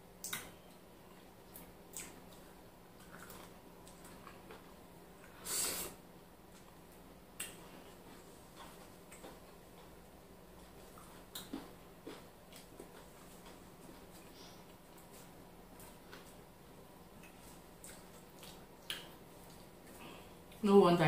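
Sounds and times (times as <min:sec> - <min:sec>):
faint steady hum: 0:00.0 - 0:21.0
chewing and mouth sounds: 0:00.2 - 0:05.4, 0:06.5 - 0:16.5, 0:17.1 - 0:20.6.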